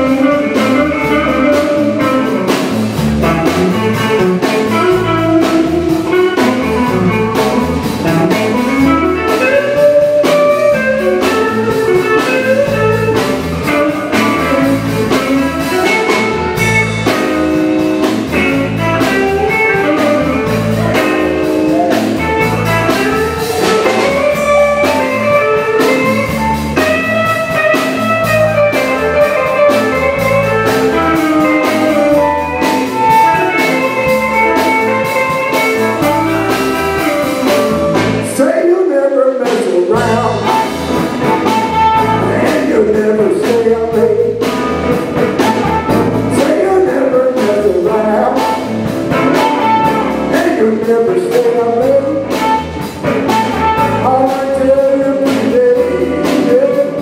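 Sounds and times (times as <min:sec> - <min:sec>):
harmonica bending notes: 0:00.0 - 0:38.2, 0:40.0 - 0:43.1, 0:44.5 - 0:57.0
electric blues band playing: 0:00.0 - 0:57.0.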